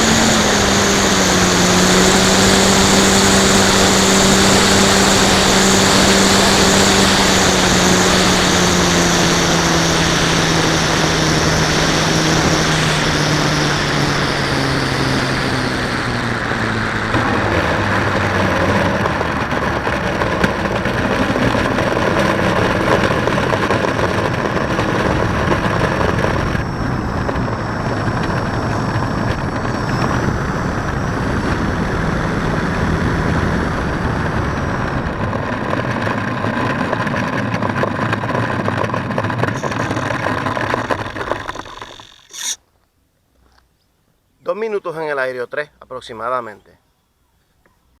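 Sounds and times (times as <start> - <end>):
model plane motor whining: 0.0 - 42.6.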